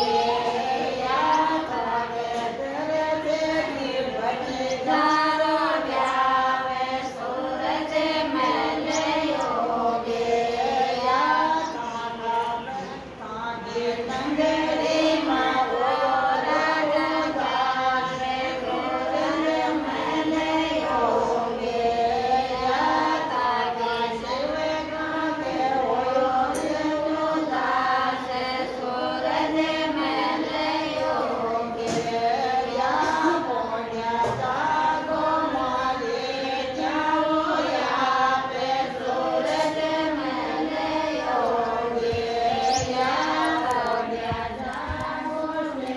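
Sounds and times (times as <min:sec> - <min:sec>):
group of women singing: 0:00.0 - 0:45.9.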